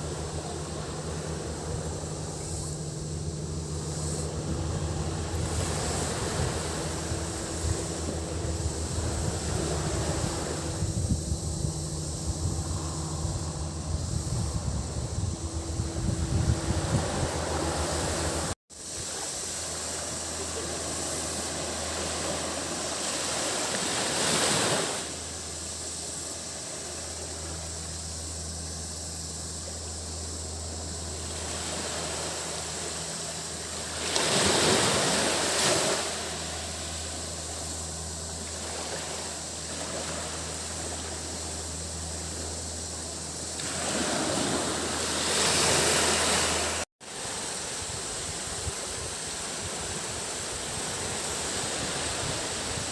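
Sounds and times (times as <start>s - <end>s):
waves washing onto beach: 0.0s - 11.2s, 16.2s - 28.0s, 30.9s - 52.9s
high cicada drone: 0.0s - 52.9s.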